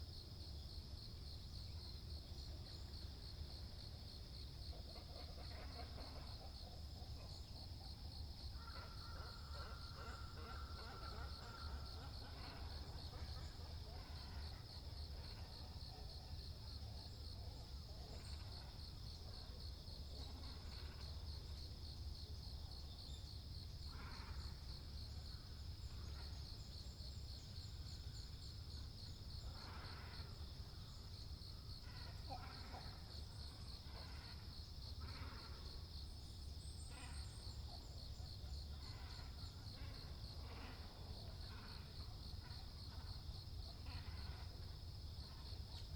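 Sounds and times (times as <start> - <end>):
insect trill: 0.0 - 45.9.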